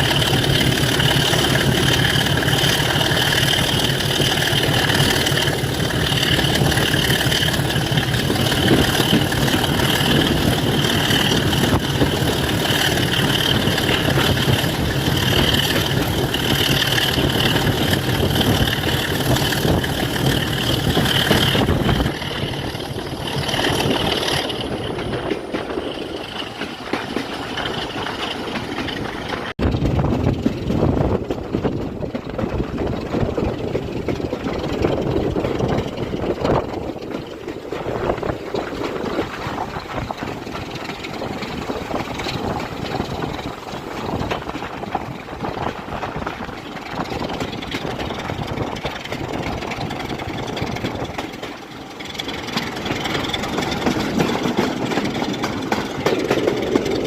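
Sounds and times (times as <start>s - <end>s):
diesel locomotive engine idling: 0.0s - 57.0s.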